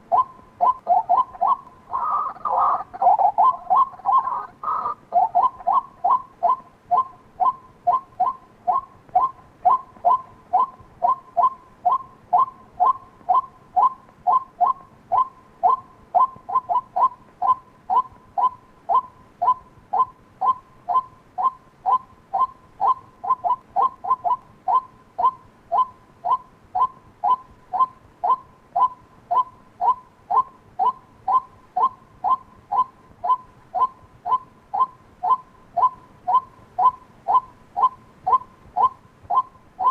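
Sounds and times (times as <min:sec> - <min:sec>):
waterhen call: 0:00.0 - 0:39.9.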